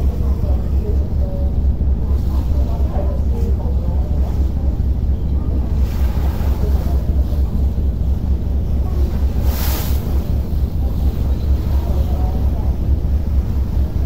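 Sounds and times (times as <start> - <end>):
choppy water against hull: 0.0 - 14.0
ferry engine low rumble: 0.0 - 14.0.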